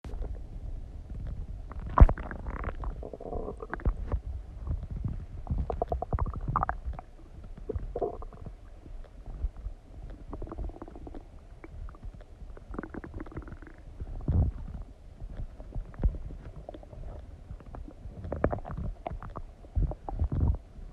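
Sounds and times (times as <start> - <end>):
stomach gurgling and rumbling: 0.0 - 20.9.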